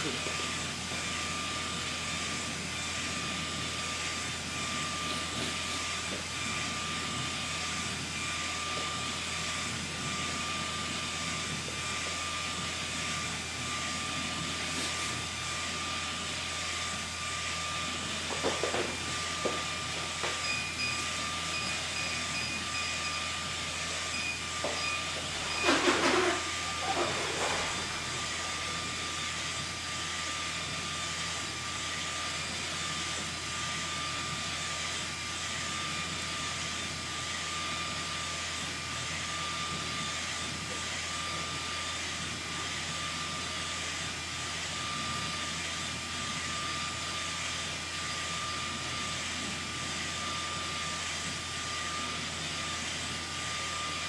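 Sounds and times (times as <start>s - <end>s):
printer hissing and whining: 0.0s - 54.0s.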